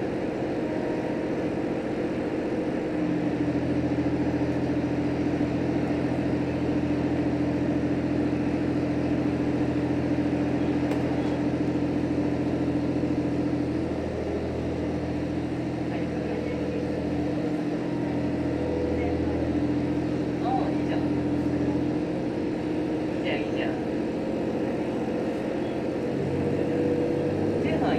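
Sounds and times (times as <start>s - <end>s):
railcar cabin hum and rumble: 0.0s - 27.9s.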